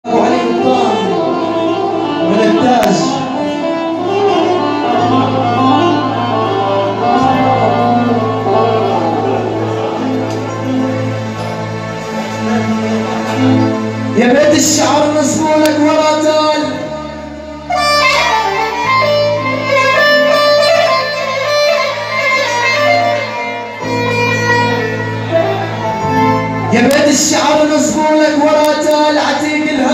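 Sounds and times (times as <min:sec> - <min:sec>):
melodic string line: 0:00.1 - 0:29.9.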